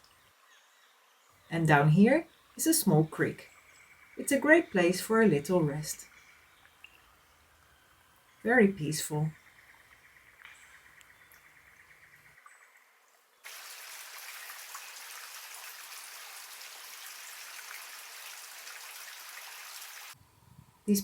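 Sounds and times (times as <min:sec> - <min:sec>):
creek trickling water: 0:00.0 - 0:20.2.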